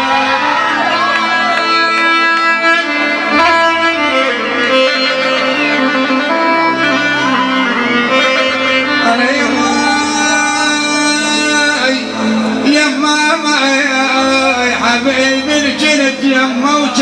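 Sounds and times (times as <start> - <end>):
instrumental popular music: 0.0 - 17.0.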